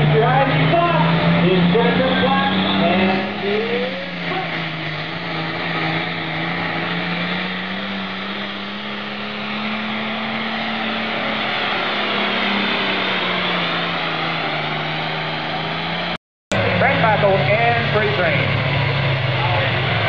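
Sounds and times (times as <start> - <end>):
diesel tractor engine at full throttle: 0.0 - 20.0
heavy exhaust rush: 0.0 - 20.0.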